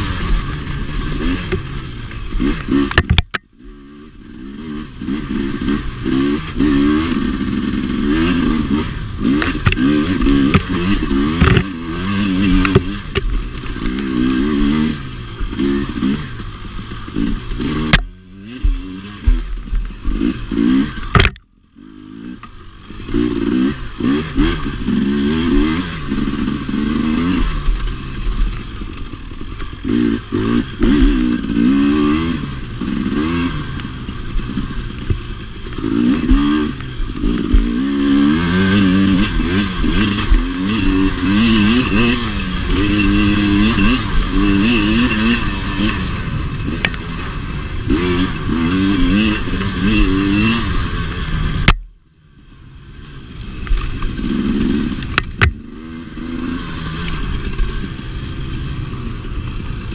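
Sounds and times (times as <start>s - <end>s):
dirt bike engine revving: 0.0s - 51.8s, 52.4s - 59.9s.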